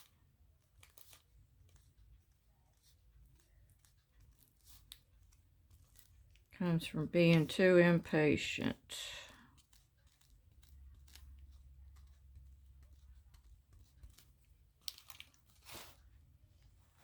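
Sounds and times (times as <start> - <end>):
faint clicks and scratches: 0.0 - 8.0, 8.9 - 17.0.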